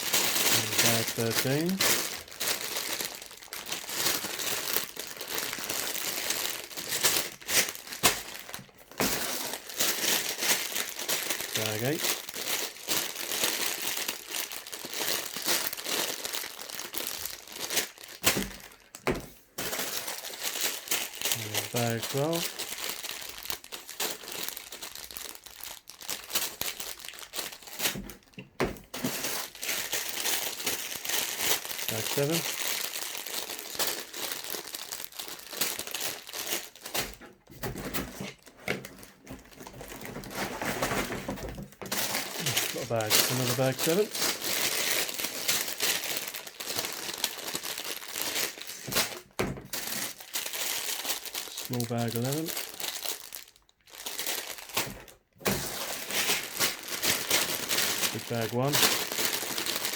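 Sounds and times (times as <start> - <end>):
plastic bags crinkling: 0.0 - 59.9.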